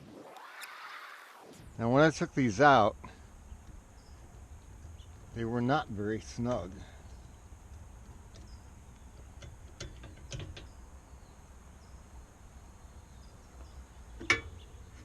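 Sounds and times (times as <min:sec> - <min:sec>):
low steady hum: 0:01.5 - 0:15.0.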